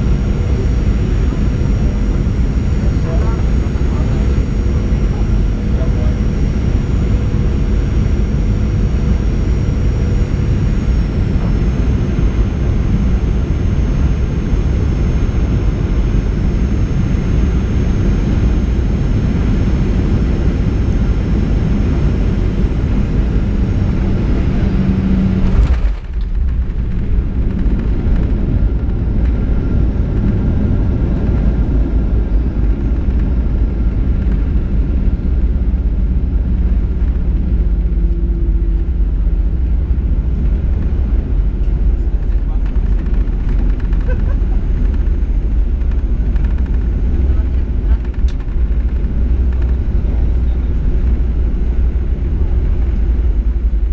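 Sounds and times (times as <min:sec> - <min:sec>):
airplane cabin engine rumble: 0:00.0 - 0:53.9.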